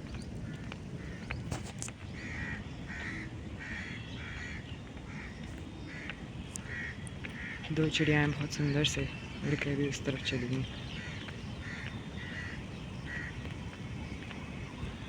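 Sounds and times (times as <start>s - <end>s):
low outdoor rumble: 0.0s - 15.0s
bird calling: 2.2s - 15.0s.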